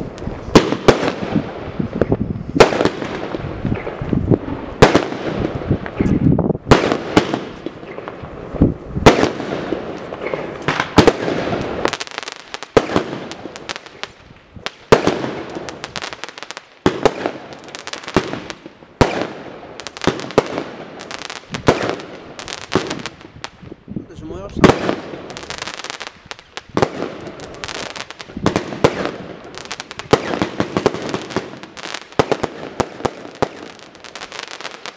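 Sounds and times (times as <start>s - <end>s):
firework bangs: 0.0s - 23.8s, 24.5s - 34.9s
hiss and crackle of bursting stars: 0.0s - 34.9s.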